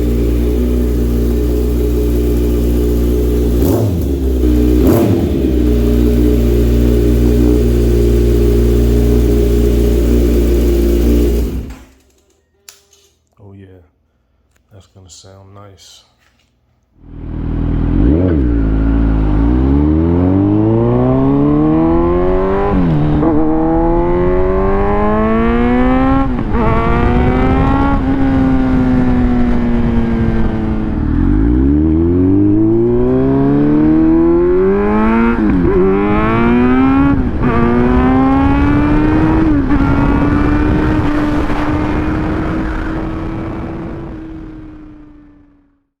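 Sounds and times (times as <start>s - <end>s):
motorcycle accelerating hard: 0.0s - 12.0s, 17.0s - 45.8s.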